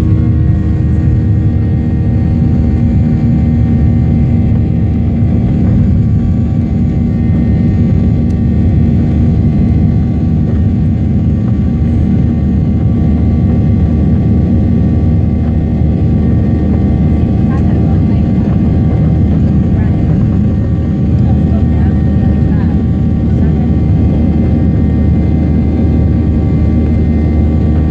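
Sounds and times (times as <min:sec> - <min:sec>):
jet engines rumbling: 0:00.0 - 0:27.9.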